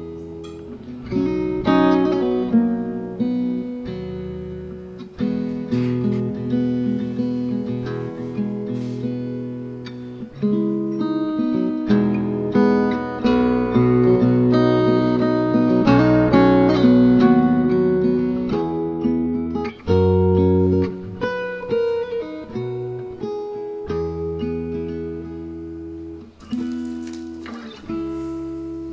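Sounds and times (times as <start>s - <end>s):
acoustic guitar music: 0.0s - 28.9s.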